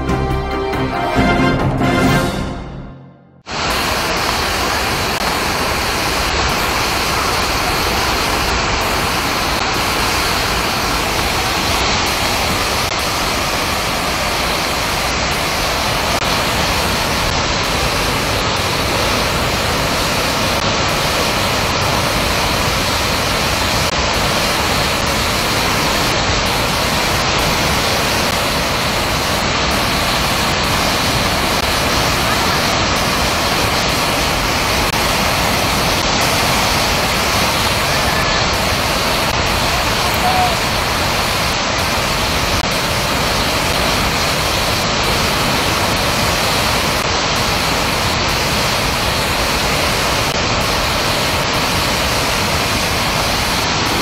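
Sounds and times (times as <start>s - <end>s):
waterfall rushing: 3.4s - 54.0s.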